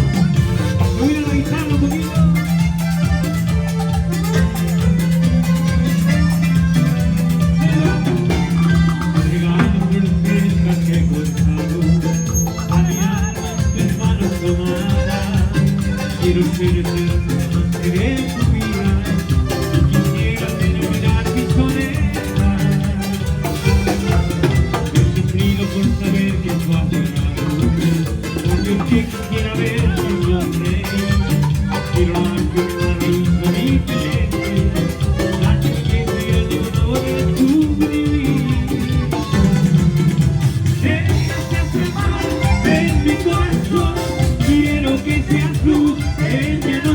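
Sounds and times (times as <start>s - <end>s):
band playing latin dance music: 0.0s - 46.9s.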